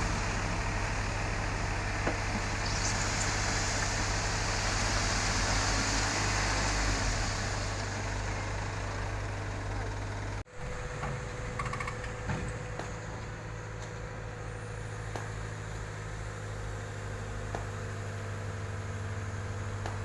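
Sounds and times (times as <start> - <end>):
diesel engine idling hum: 0.0 - 20.0.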